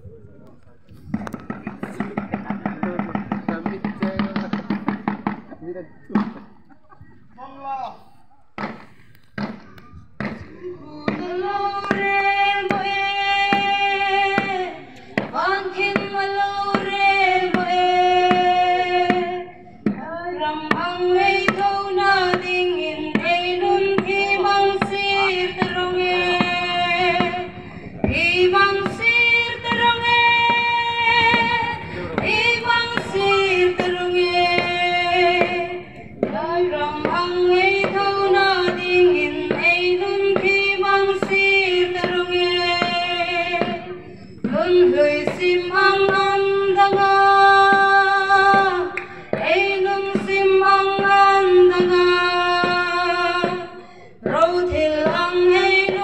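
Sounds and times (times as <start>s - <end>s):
steady beat: 1.0s - 7.4s, 8.6s - 56.0s
person singing held melody: 9.4s - 56.0s.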